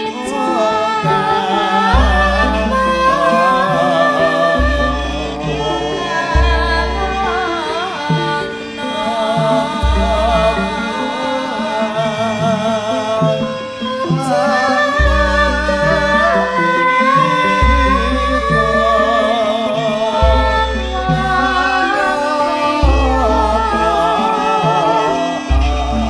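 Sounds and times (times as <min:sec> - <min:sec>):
gamelan ensemble playing: 0:00.0 - 0:26.0
woman singing into microphone: 0:00.0 - 0:26.0.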